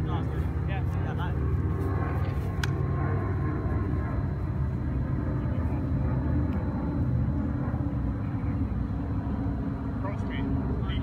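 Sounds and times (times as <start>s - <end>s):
steady low outdoor rumble: 0.0s - 11.0s.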